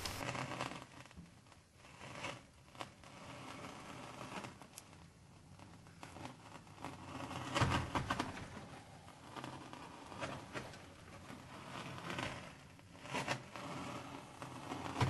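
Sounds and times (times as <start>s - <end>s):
rock scraping over sand: 0.0s - 15.0s.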